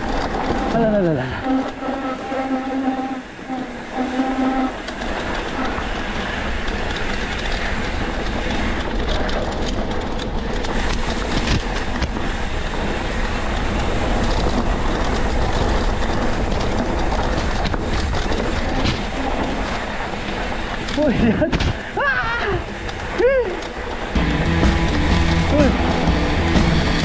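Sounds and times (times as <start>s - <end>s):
motorcycle rumble: 0.0s - 27.0s
wheels rattling over stones: 0.0s - 27.0s.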